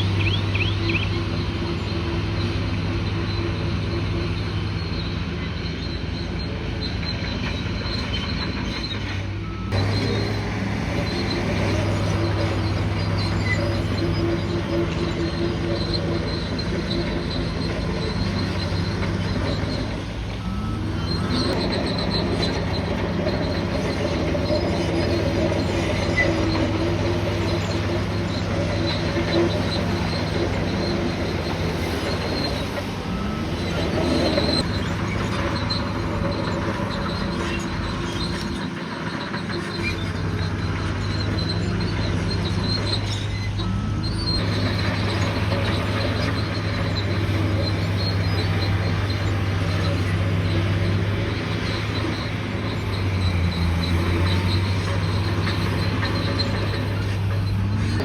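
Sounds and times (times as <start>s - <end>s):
bulldozer diesel engine: 0.0s - 58.0s
steel tracks squealing: 0.0s - 58.0s.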